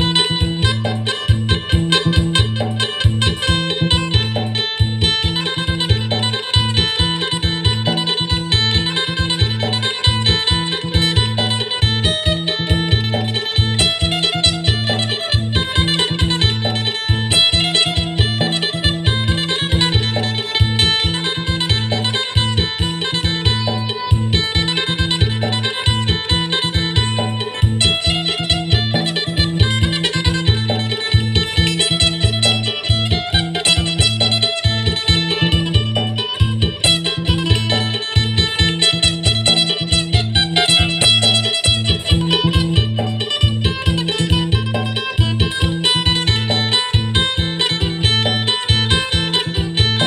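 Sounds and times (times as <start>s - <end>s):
plucked lute melody: 0.0s - 50.0s.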